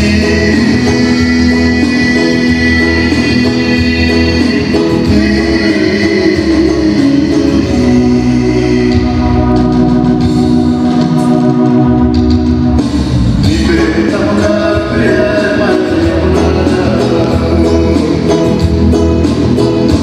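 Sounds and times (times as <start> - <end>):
low beat: 0.0 - 20.0
organ-like keyboard chords: 0.0 - 20.0.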